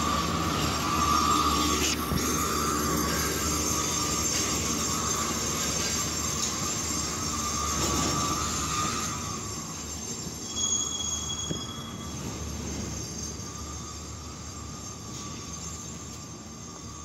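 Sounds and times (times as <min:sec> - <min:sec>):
thin high-pitched wheel squeals: 0:00.0 - 0:17.0
train wheels rolling on rails: 0:00.0 - 0:17.0
wheel squealing: 0:00.0 - 0:17.0.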